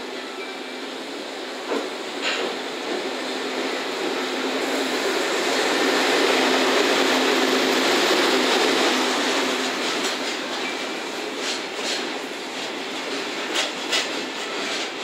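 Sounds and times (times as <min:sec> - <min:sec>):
train wheels rumbling past: 0:01.0 - 0:15.0.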